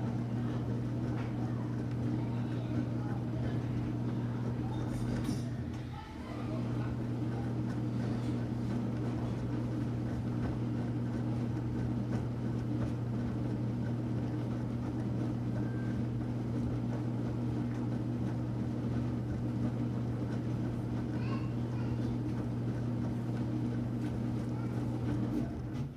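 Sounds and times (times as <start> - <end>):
washing machine running: 0.0 - 25.9.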